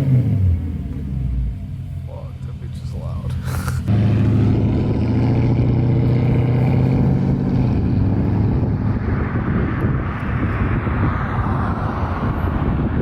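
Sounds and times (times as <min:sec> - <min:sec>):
car engine deep exhaust drone: 0:00.0 - 0:13.0.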